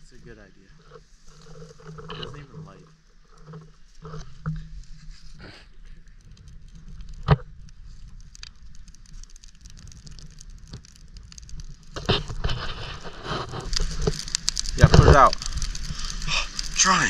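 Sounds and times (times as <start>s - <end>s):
small fire crackling: 0.0s - 17.0s.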